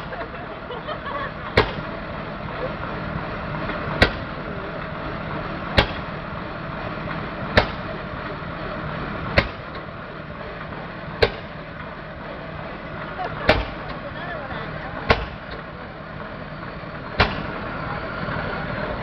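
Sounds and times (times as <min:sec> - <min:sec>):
exhaust bangs: 0:00.0 - 0:19.0
stationary engine running: 0:00.0 - 0:19.0.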